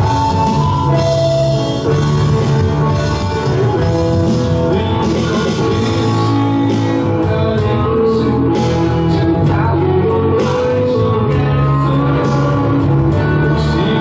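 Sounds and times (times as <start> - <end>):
drum kit: 0.0 - 14.0
electric bass: 0.0 - 14.0
electric guitars: 0.0 - 14.0.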